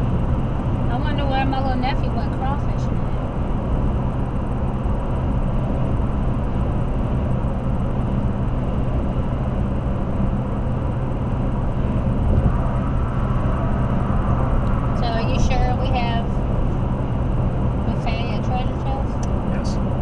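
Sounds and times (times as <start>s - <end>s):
car engine drone: 0.0s - 20.0s
car road noise: 0.0s - 20.0s.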